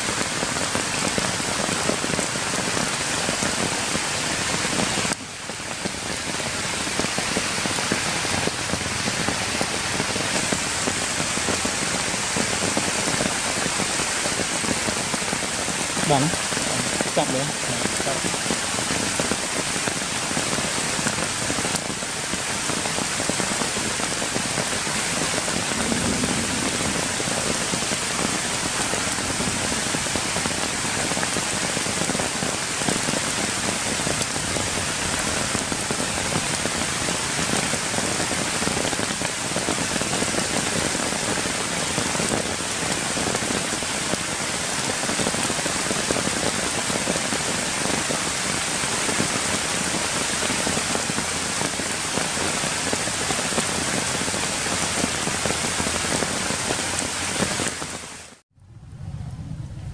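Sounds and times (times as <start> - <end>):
rain falling on wet ground: 0.0 - 58.4.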